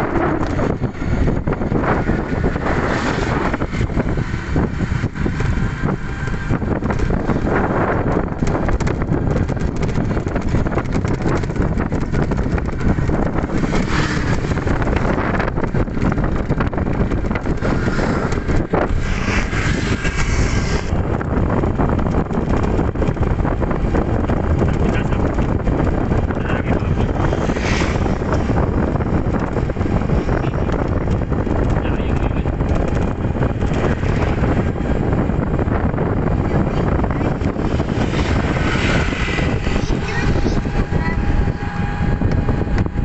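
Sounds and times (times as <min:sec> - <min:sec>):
road noise: 0:00.0 - 0:43.0
wind rushing over microphone: 0:00.0 - 0:43.0.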